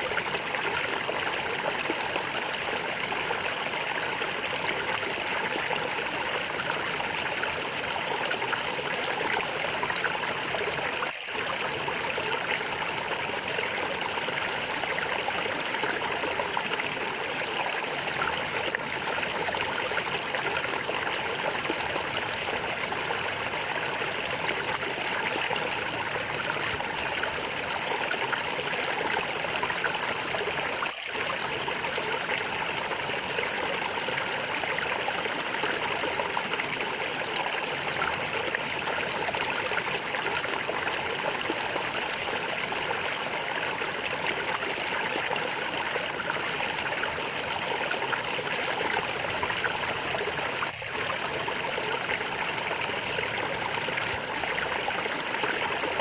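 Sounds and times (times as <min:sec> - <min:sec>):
water flowing and gurgling: 0:00.0 - 0:56.0.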